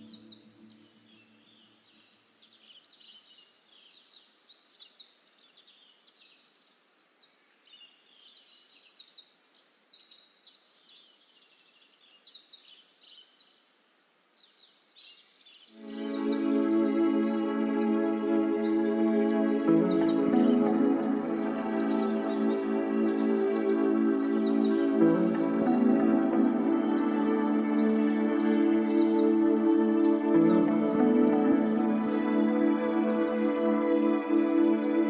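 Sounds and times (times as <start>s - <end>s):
small birds chirping: 0.0s - 32.5s.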